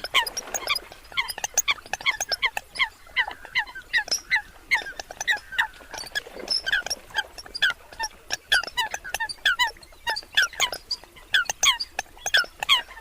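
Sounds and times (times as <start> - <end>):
coots calling: 0.0 - 13.0.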